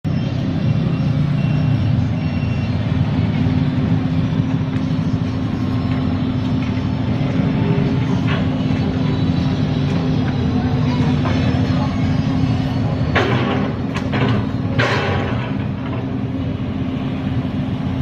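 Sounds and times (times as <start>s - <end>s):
excavator diesel engine droning: 0.1s - 18.0s.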